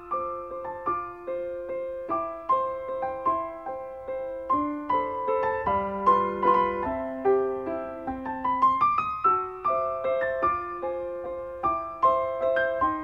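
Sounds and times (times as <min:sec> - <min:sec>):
solo piano melody: 0:00.0 - 0:13.0.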